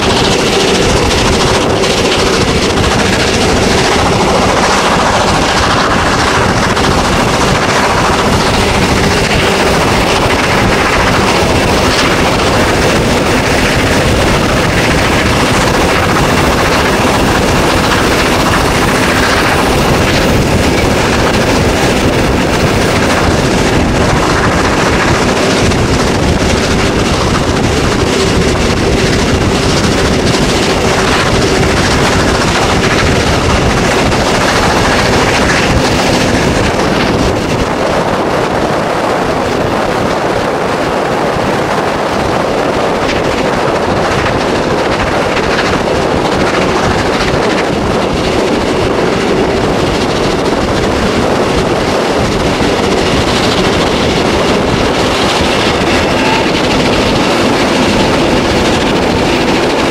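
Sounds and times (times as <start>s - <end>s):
steam locomotive exhaust beats: 0.0s - 59.9s
wind buffeting microphone: 0.0s - 59.9s.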